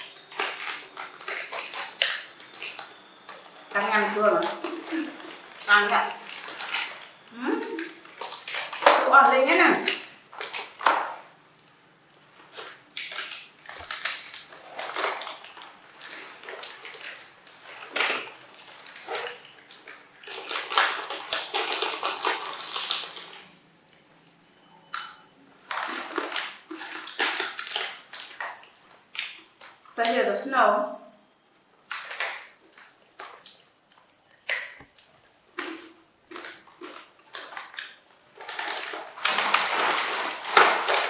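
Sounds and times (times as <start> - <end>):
plastic snack packets crinkling: 0.0 - 30.4, 31.8 - 41.0.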